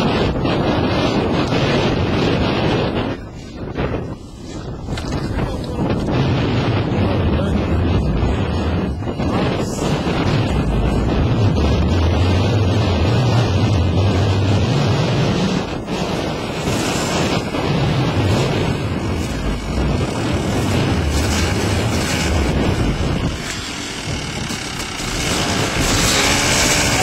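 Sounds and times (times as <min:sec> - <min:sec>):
dirt bike engines running: 0:00.0 - 0:27.0
wind noise on microphone: 0:00.0 - 0:27.0.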